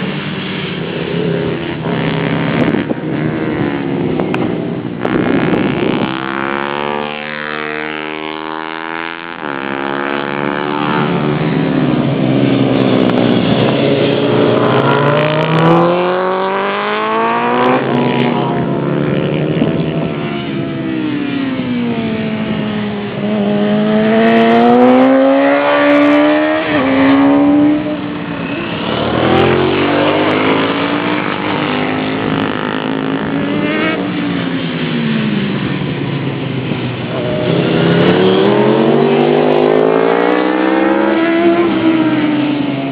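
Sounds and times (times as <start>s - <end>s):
motorbike engine revving: 1.2s - 42.9s.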